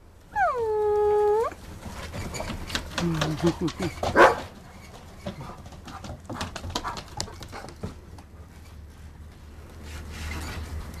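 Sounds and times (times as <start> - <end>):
dogs playing and running: 0.4 - 11.0.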